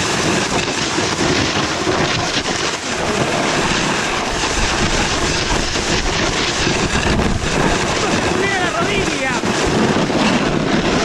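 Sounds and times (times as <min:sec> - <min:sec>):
snowboard scraping over snow: 0:00.0 - 0:11.0
wind buffeting microphone: 0:00.0 - 0:11.0.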